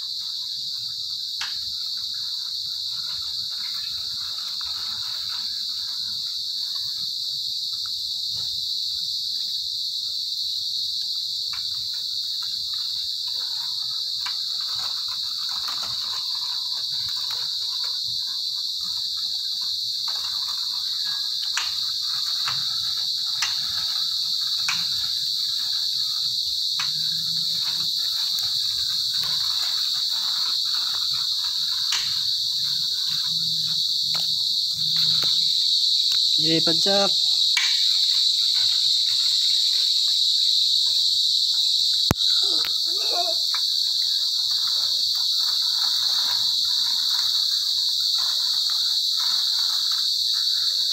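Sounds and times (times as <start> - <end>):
night insects trilling: 0.0 - 50.9.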